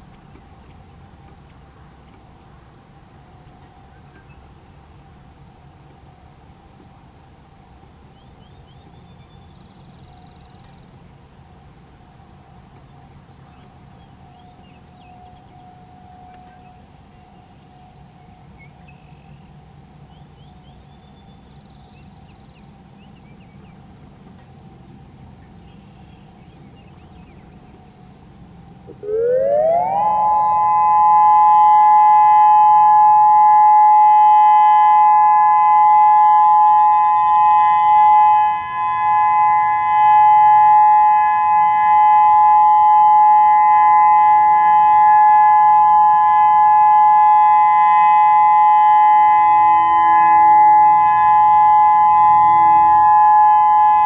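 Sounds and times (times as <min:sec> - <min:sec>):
two-tone warning siren: 0:00.0 - 0:54.0.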